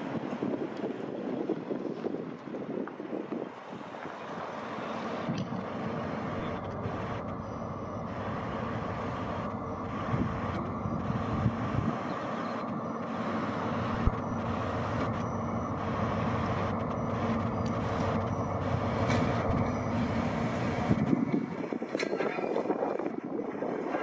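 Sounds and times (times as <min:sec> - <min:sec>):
diesel train engine droning: 0:00.0 - 0:24.0.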